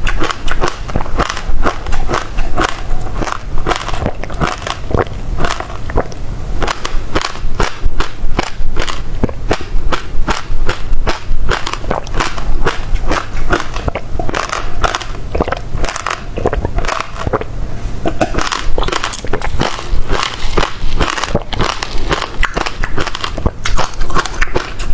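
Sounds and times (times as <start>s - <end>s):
chewing crunchy seeds: 0.0s - 17.5s, 18.1s - 24.9s.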